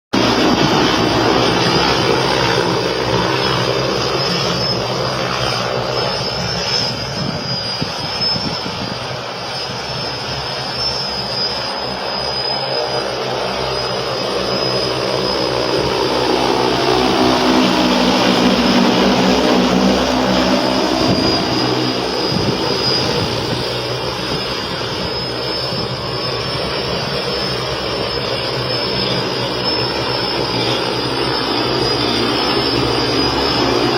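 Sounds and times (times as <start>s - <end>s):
aircraft propellers whirring drone: 0.1s - 33.9s.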